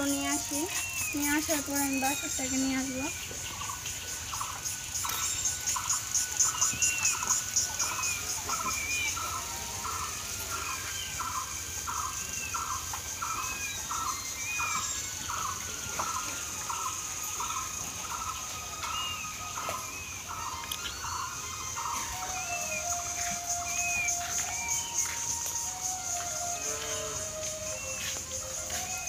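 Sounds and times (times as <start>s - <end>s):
high pulsing insect drone: 0.0s - 29.0s
chirping bird notes: 4.4s - 29.0s.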